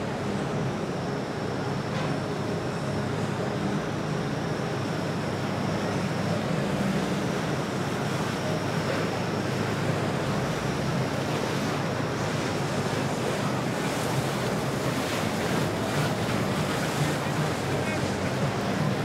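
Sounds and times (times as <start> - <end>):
boat engine rumble: 0.0 - 19.0
water rushing: 0.0 - 19.0.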